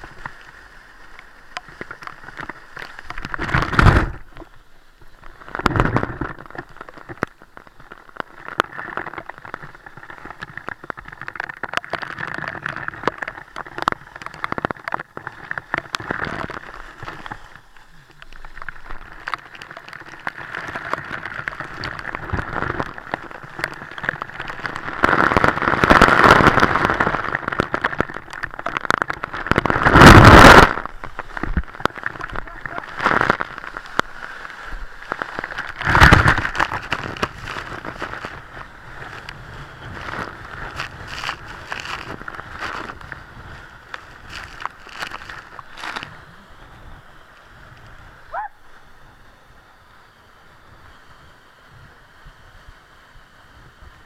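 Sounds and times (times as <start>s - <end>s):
water spattering and rushing: 0.0s - 54.0s.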